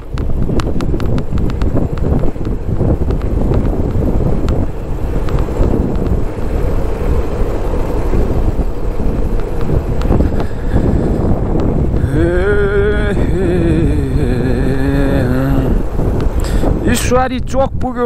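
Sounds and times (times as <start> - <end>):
motorcycle road and engine noise: 0.0 - 18.0
wind rushing over microphone: 0.0 - 18.0.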